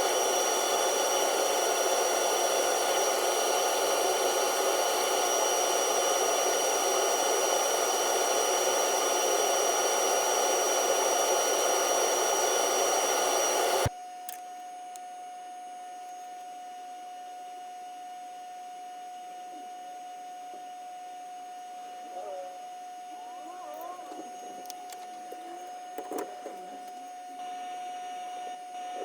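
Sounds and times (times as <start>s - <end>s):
power tool whirring with whine: 0.0s - 14.3s, 19.0s - 29.0s.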